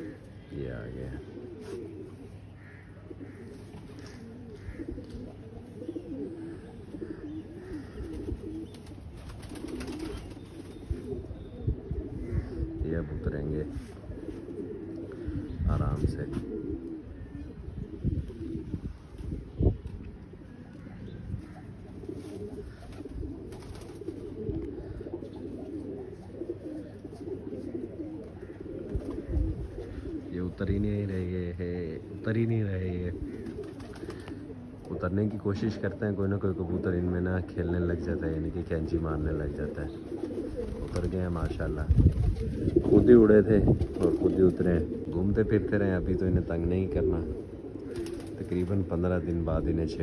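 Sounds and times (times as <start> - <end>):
pigeons cooing: 0.0 - 50.0.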